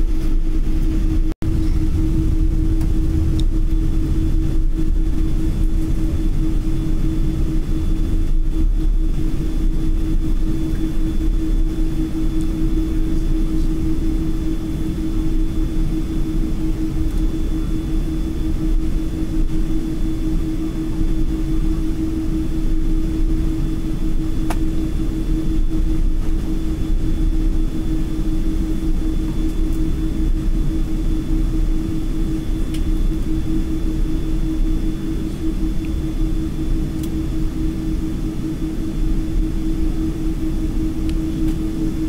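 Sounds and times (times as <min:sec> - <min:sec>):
faint high whine: 0:00.0 - 0:42.0
jet engines rumbling: 0:00.0 - 0:42.0.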